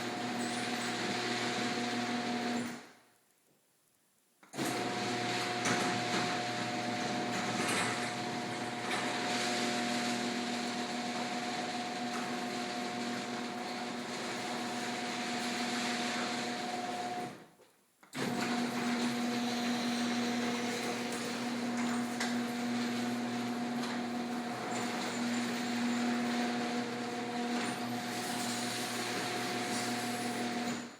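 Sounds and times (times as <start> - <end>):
garage door opener running: 0.0 - 2.9, 4.5 - 17.4, 18.1 - 30.9.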